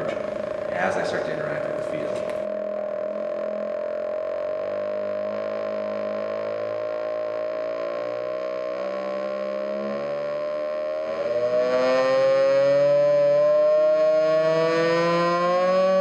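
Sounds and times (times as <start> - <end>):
theremin sliding note: 0.0 - 16.0.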